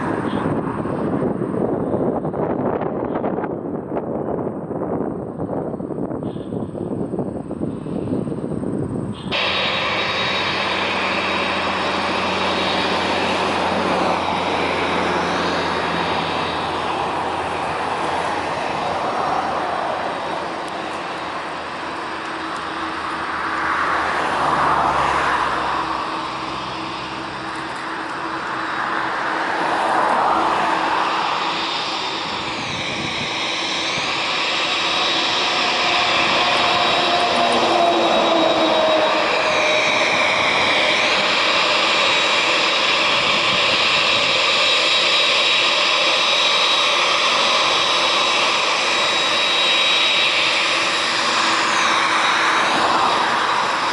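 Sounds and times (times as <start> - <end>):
jet engines taxiing: 0.0 - 53.9.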